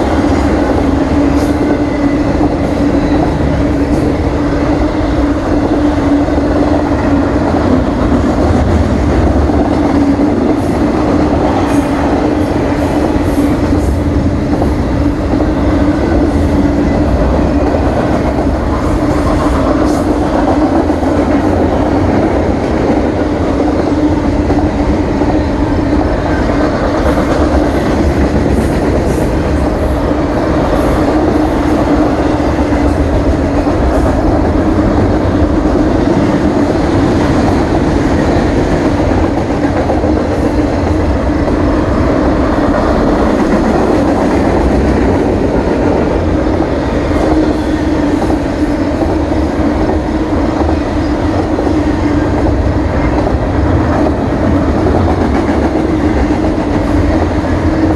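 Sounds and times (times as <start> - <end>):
freight train rolling past: 0.0 - 57.9.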